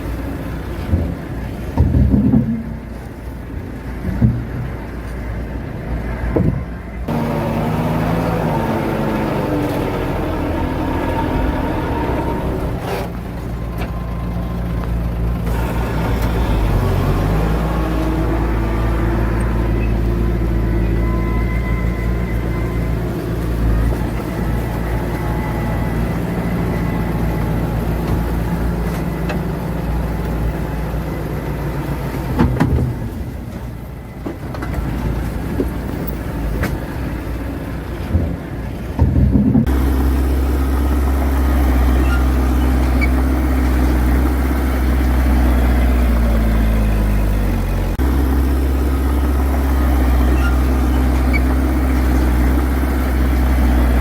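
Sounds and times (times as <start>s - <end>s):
engine knocks: 0.0s - 54.0s
heavy diesel engines running: 0.0s - 54.0s.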